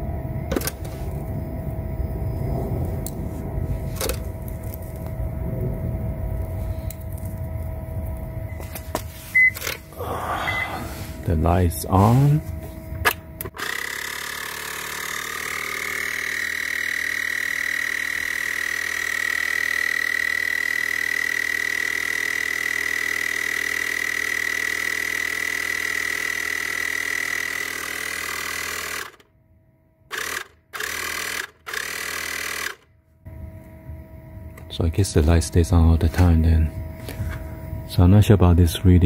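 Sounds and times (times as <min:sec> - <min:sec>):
air compressor whining: 0:00.0 - 0:39.0.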